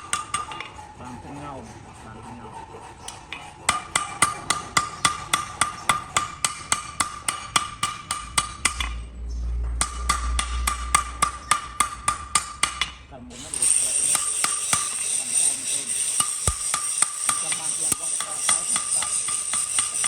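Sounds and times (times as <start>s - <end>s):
hammer striking metal on anvil: 0.0s - 0.7s, 3.7s - 9.0s, 9.7s - 20.0s.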